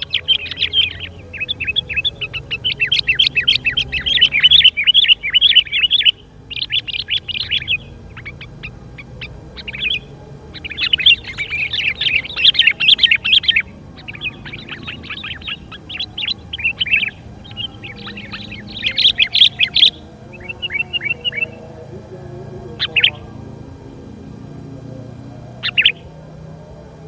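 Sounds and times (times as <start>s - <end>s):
birds chattering calls: 0.0s - 27.0s.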